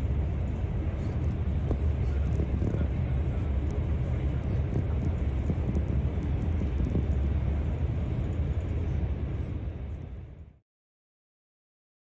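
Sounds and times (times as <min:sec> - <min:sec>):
train rumble inside cabin: 0:00.0 - 0:10.6.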